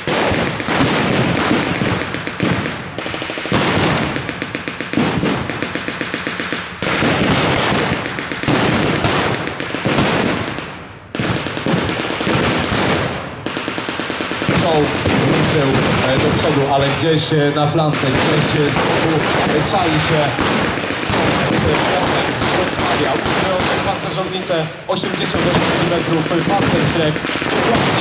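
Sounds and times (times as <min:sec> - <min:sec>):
blank gunfire: 0:00.0 - 0:28.0
loud bangs: 0:00.0 - 0:28.0.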